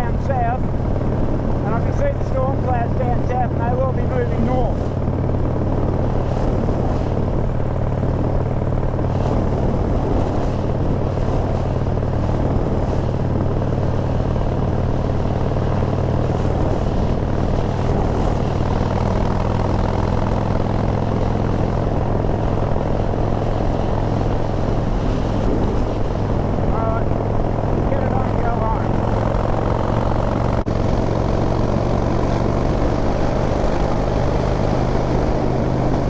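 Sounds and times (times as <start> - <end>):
motorcycle engine cruising: 0.0 - 36.0
wind rushing noise: 0.0 - 36.0.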